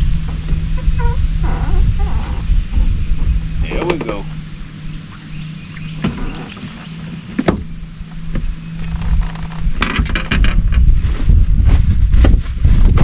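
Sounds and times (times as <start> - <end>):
small boat motor humming: 0.0 - 11.0
wind on microphone: 0.0 - 13.0.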